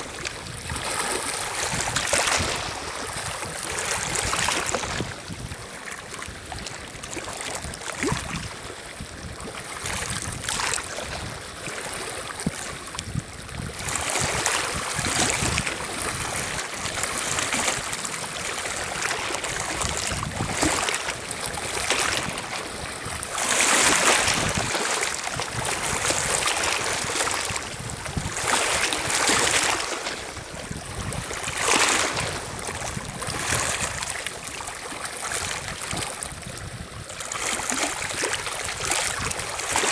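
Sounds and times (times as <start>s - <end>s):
waves lapping on pebble shore: 0.0s - 8.6s, 13.5s - 36.4s, 37.2s - 39.9s.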